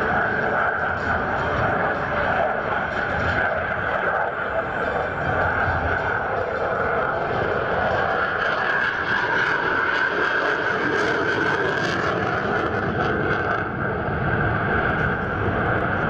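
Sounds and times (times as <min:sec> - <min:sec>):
jet flying overhead: 0:00.0 - 0:16.0.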